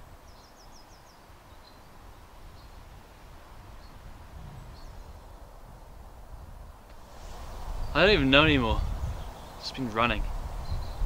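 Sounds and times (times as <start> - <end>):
small birds chirping: 0.0 - 3.0, 3.6 - 11.0
wind rumble on microphone: 0.0 - 11.0.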